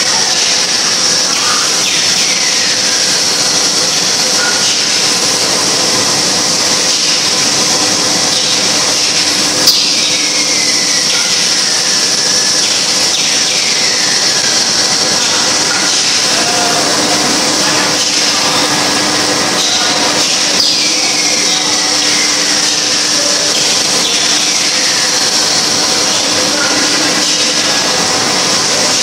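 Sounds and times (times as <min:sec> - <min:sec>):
production machinery whirring: 0:00.0 - 0:29.0.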